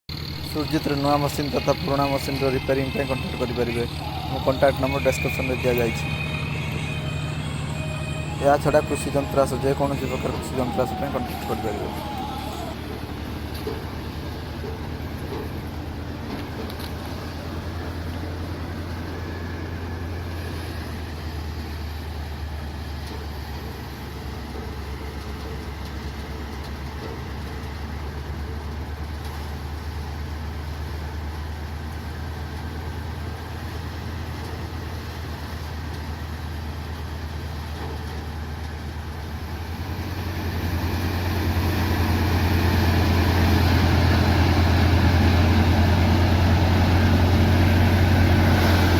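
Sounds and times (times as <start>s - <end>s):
engine humming steadily: 0.1s - 48.9s.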